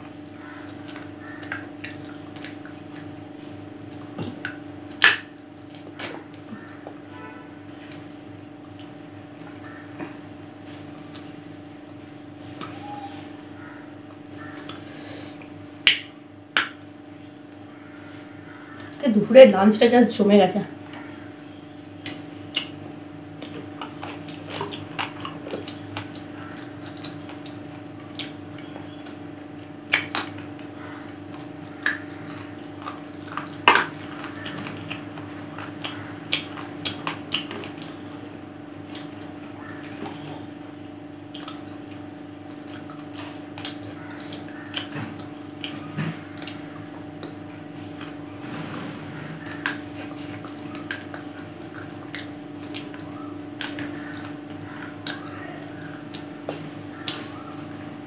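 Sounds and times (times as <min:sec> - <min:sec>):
low steady hum: 0:00.0 - 0:58.0
chewing and mouth sounds: 0:00.3 - 0:09.8, 0:13.6 - 0:17.7, 0:22.0 - 0:48.3, 0:49.4 - 0:58.0.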